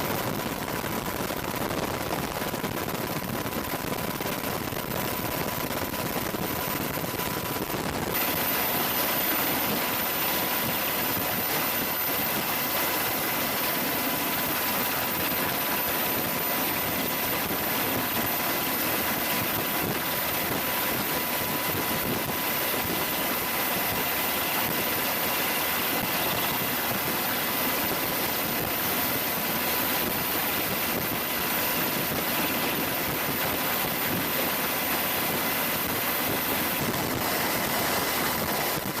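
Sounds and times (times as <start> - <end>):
helicopter turbine and rotor noise: 0.0 - 39.0
steady high whine: 0.0 - 39.0.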